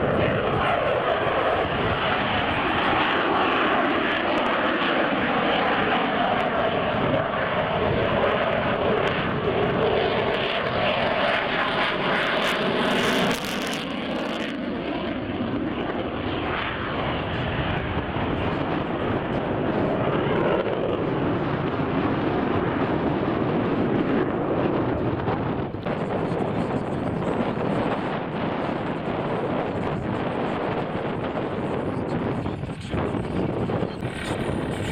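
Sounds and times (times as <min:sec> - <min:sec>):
plane engines flying by: 0:00.0 - 0:34.9.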